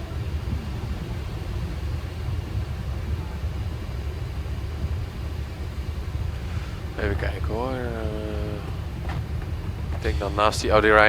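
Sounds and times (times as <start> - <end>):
aircraft cockpit rumble: 0.0 - 11.0.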